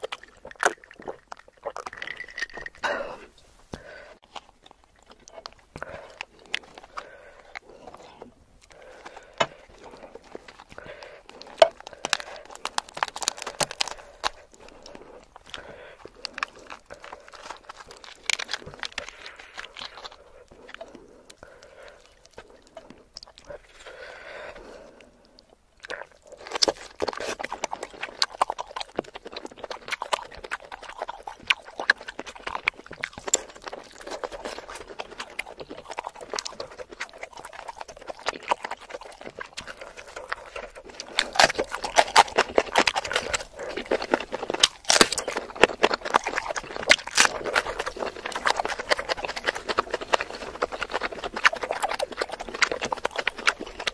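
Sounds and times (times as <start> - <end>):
wet chewing and lip smacks: 0.0 - 53.9.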